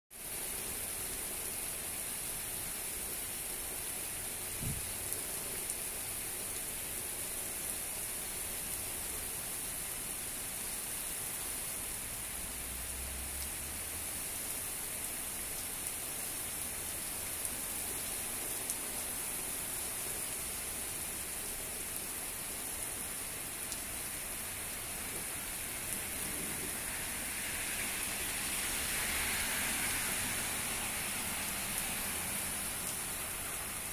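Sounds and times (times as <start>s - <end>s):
heavy rain pouring: 0.1s - 33.9s
car tyres hissing on wet road: 0.2s - 33.9s.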